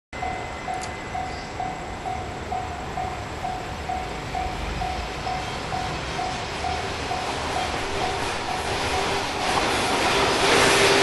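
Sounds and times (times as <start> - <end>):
freight train rumble: 0.2 - 11.0.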